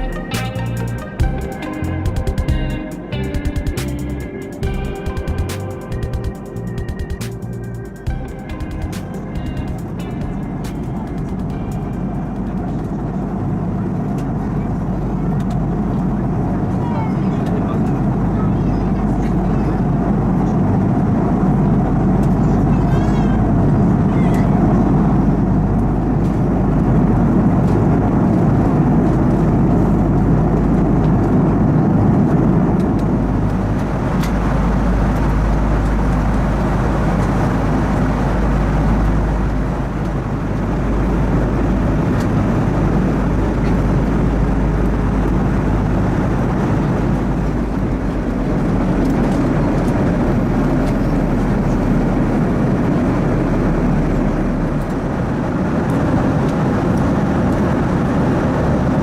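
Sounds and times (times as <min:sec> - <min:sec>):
jet engine and airflow rumble: 0:00.0 - 0:59.0.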